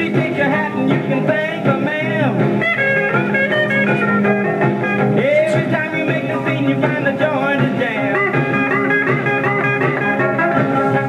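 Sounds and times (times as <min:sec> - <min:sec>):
music from record player: 0:00.0 - 0:11.0.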